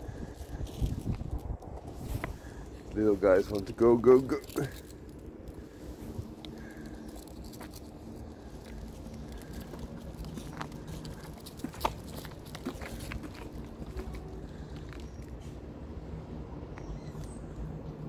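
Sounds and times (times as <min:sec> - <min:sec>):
dog paws pattering on bricks: 0:00.1 - 0:15.6.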